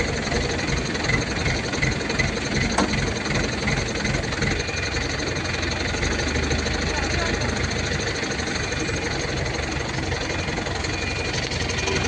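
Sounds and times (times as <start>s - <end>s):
diesel engine knocking: 0.0s - 12.0s.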